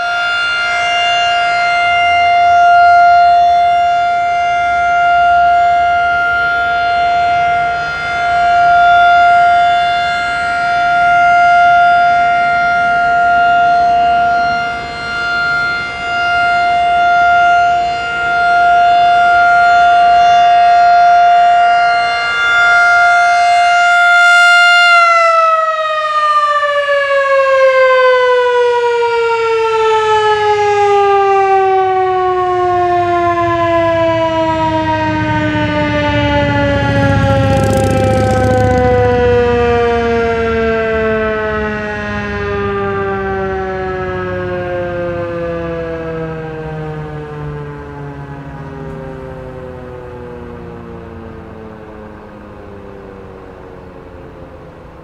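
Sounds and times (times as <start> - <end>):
rotating warning siren: 0.0 - 55.0
siren winding down: 0.0 - 55.0.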